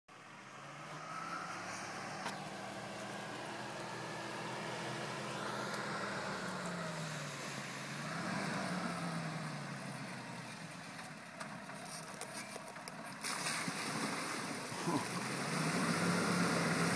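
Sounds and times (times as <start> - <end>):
car engine at low revs: 0.1 - 16.9.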